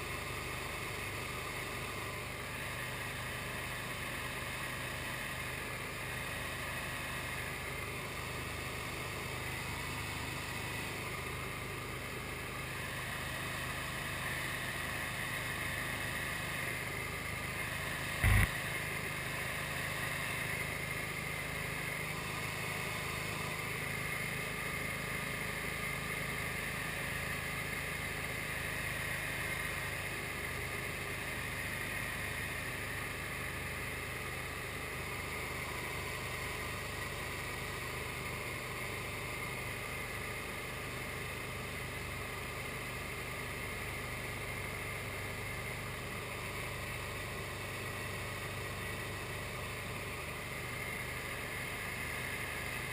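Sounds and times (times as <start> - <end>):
aircraft engine and propeller drone: 0.0 - 52.9.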